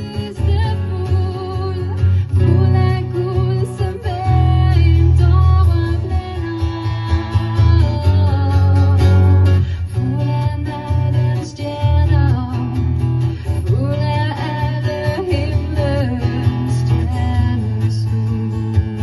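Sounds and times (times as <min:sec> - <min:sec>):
acoustic guitar: 0:00.0 - 0:19.0
woman singing into microphone: 0:00.0 - 0:19.0.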